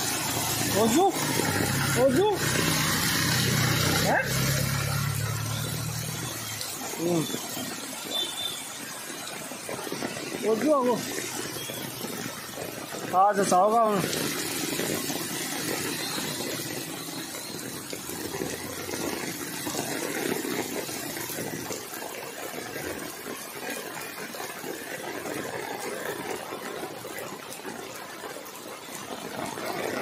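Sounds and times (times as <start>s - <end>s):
heavy rain on wet road: 0.0s - 30.0s.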